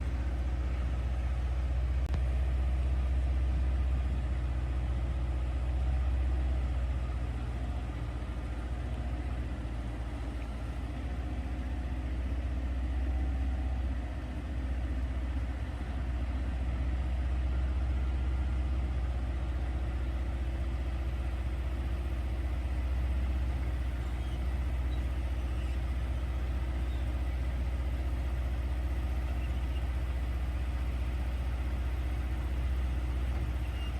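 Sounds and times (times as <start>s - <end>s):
construction engine idling: 0.0s - 33.9s.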